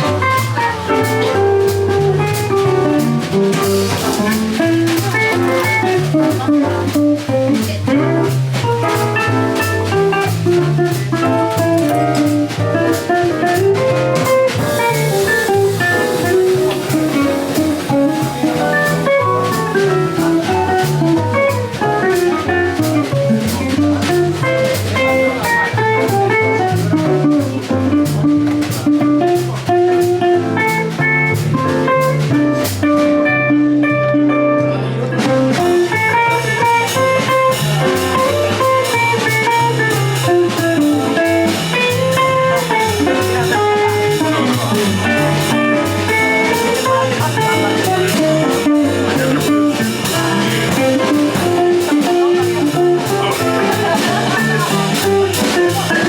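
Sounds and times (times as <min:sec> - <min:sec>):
bass: 0:00.0 - 0:56.0
drum kit with cymbals: 0:00.0 - 0:56.0
plucked guitar melody: 0:00.0 - 0:56.0.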